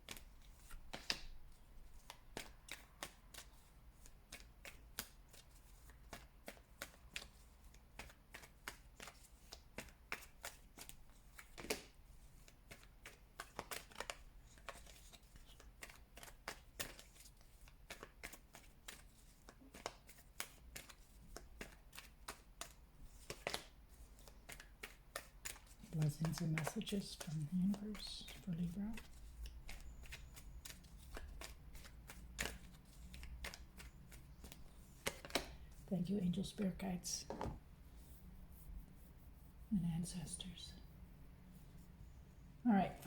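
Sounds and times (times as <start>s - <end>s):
cards being shuffled: 0.0s - 36.6s.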